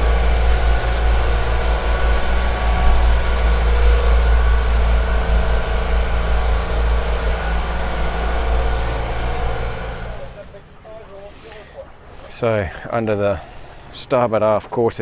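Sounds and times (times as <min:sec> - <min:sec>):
diesel engine droning: 0:00.0 - 0:14.6.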